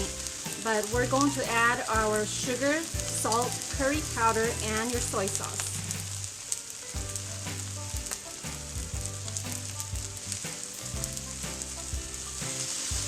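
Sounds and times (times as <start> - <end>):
rice sizzling in a wok: 0.0 - 13.0
soft background music: 0.0 - 13.0.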